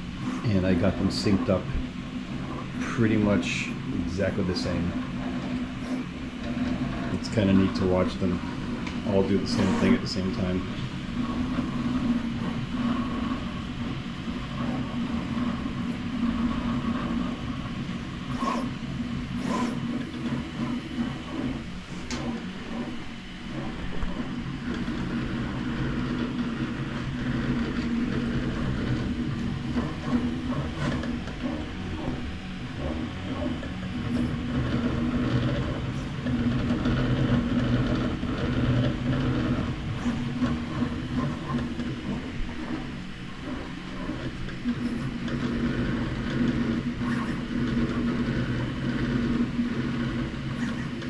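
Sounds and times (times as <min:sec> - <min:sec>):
printer stepper motors whirring: 0:00.0 - 0:51.0.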